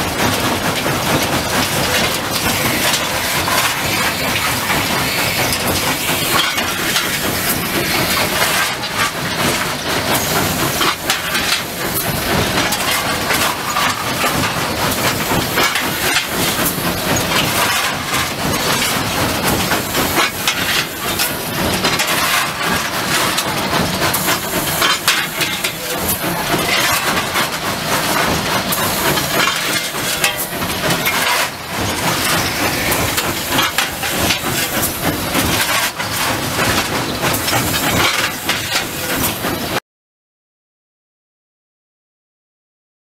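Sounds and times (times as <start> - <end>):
locomotive rattling and clatter: 0.0 - 39.8
steam hissing: 1.5 - 39.6.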